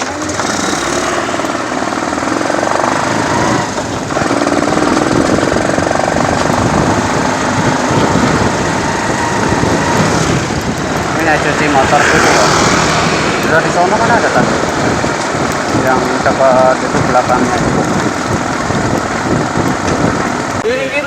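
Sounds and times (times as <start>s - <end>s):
motorcycle engine chugging: 0.0s - 21.0s.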